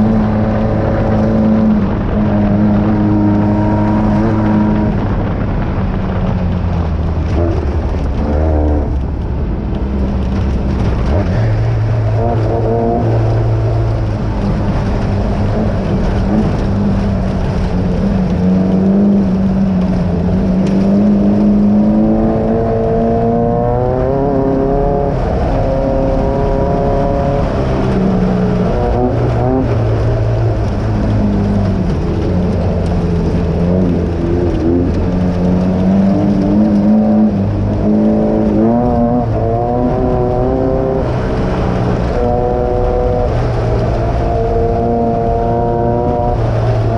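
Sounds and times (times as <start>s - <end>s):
buggy engine revving: 0.0s - 46.9s
constant rushing noise: 0.0s - 46.9s.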